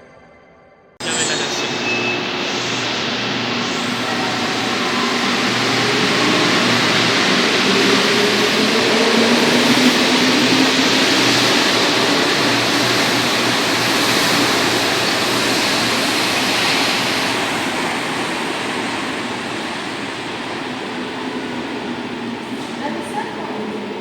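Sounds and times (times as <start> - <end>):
train running through station: 0.0 - 24.0.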